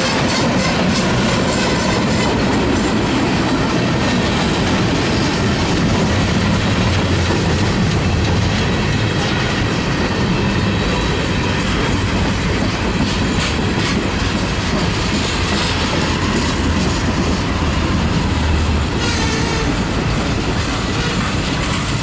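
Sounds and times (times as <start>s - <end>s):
steel wheels rumbling on rails: 0.0s - 22.0s
wheel clicks and clacks: 0.1s - 22.0s.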